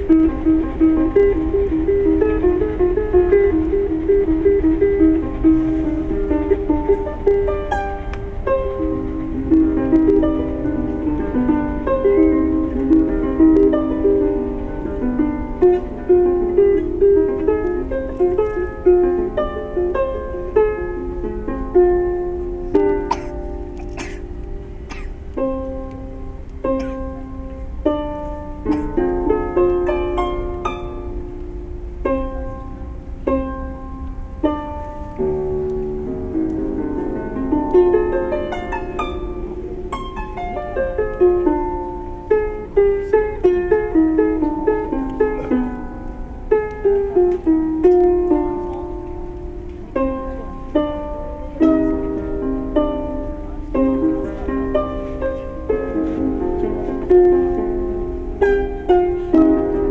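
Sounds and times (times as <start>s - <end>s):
plucked harp-like chords: 0.0s - 59.9s.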